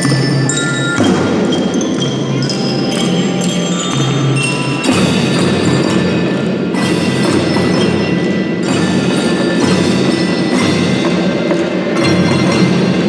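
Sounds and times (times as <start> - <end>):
children's drum band playing: 0.0 - 13.0
metal bell mallet melody: 0.0 - 13.0
sharp percussion hits: 0.0 - 13.0.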